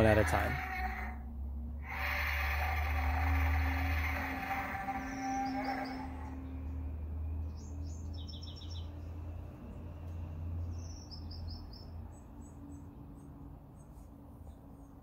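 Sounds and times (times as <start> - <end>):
small birds chirping: 1.8 - 9.8, 10.6 - 15.0.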